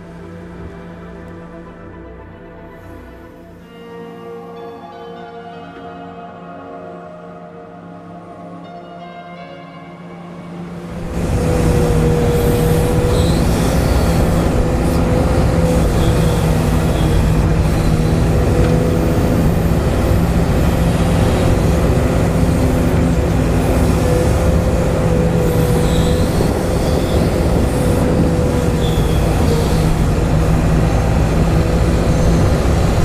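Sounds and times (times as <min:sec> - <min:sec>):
steady machine whine: 0:00.0 - 0:33.0.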